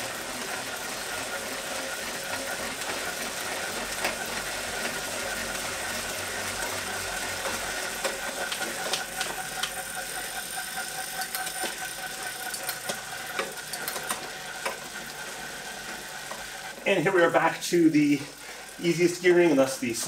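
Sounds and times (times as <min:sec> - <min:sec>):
bike trainer flywheel whirring: 0:00.0 - 0:20.0.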